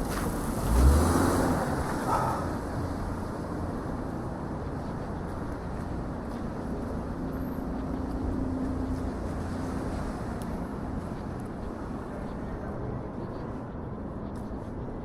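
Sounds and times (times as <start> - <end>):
engine hum: 0.0 - 15.0
traffic rumble: 0.0 - 15.0.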